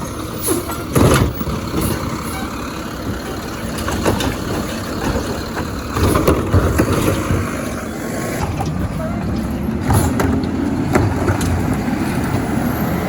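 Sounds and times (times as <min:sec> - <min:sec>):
garbage truck engine running: 0:00.0 - 0:13.0.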